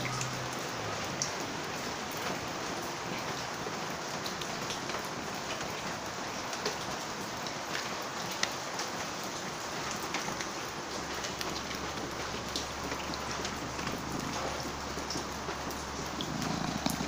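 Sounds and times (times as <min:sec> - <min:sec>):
raindrops landing close by: 0:00.0 - 0:17.0
steady rain falling: 0:00.0 - 0:17.0.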